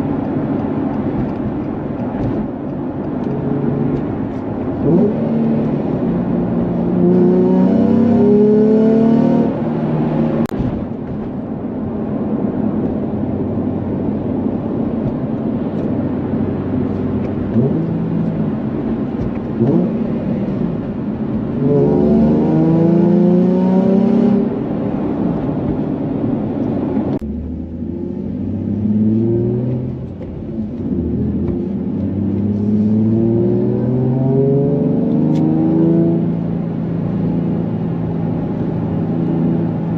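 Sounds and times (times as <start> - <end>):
car engine revving: 0.0 - 10.6, 12.1 - 39.9.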